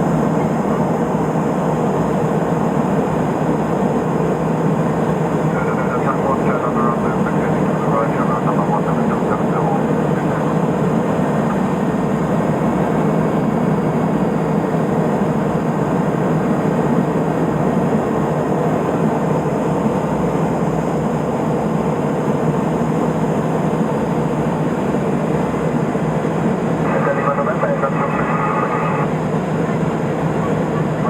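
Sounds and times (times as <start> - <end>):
turboprop engine and propeller drone: 0.0 - 31.0.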